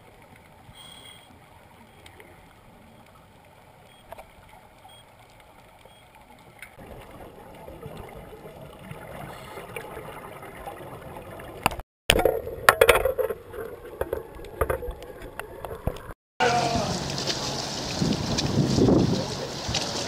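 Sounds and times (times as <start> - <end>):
regulator bubbles crackling: 0.0 - 16.2
muffled underwater water rush: 0.0 - 20.0.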